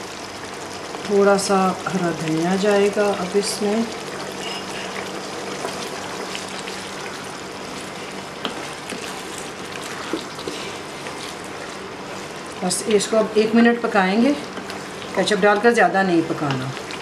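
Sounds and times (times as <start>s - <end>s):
curry bubbling in a pan: 0.0s - 13.4s, 14.2s - 17.0s.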